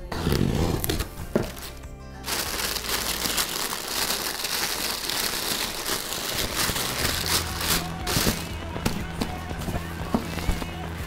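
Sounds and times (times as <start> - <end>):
tissue paper crinkling: 1.4 - 10.9.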